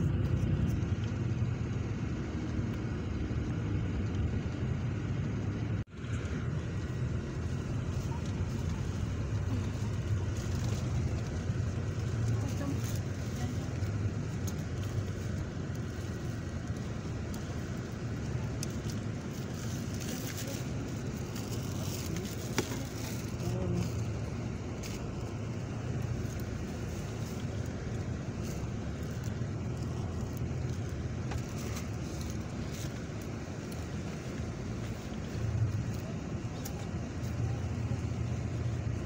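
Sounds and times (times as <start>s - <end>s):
vehicle engine and road rumble: 0.0s - 39.0s.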